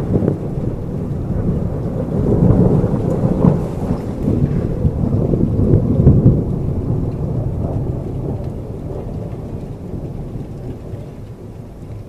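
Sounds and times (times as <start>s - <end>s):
rain hiss: 0.0s - 12.0s
thunder rumble: 0.0s - 12.0s.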